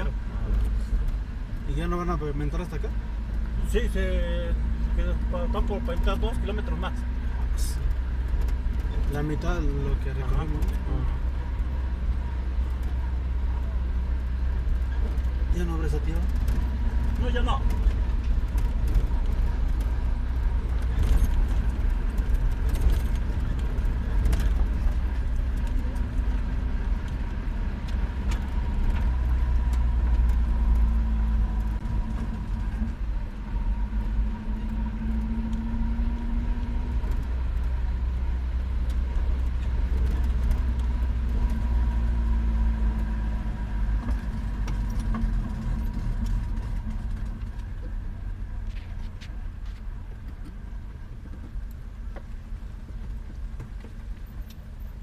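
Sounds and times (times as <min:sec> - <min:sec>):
car engine hum: 0:00.0 - 0:55.0
gravel road rumble: 0:00.0 - 0:55.0.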